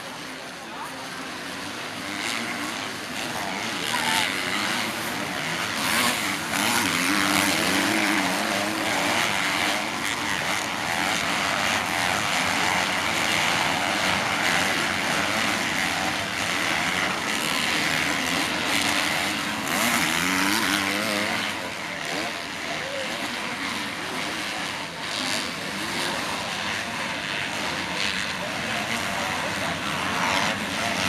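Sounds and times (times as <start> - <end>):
motocross bike engines: 0.0 - 31.0.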